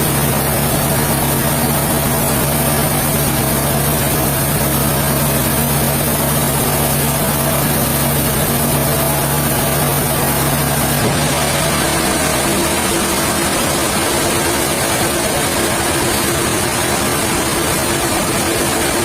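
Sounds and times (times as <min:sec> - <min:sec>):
heavy machinery engine humming: 0:00.0 - 0:19.0.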